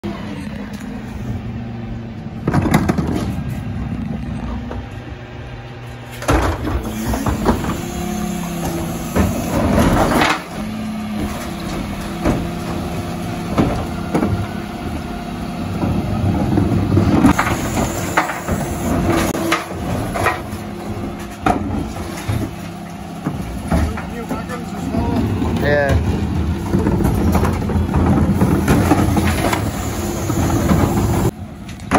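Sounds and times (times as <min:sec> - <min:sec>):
bin lorry mechanical hum: 0:00.0 - 0:31.9
recycling clattering into hopper: 0:06.2 - 0:31.9.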